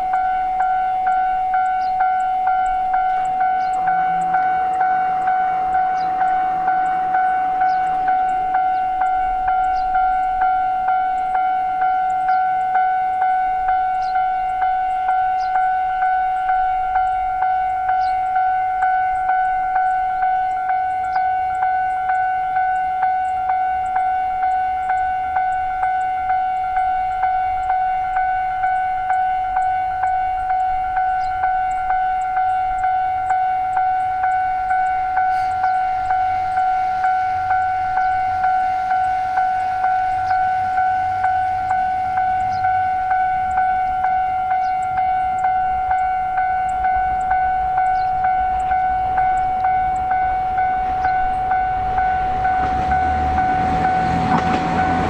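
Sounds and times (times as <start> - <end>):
level crossing alarm ringing: 0.0 - 55.0.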